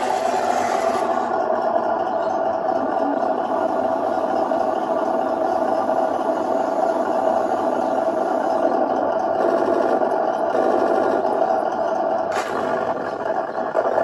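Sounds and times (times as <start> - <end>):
engine idle from small speaker: 0.0 - 14.0.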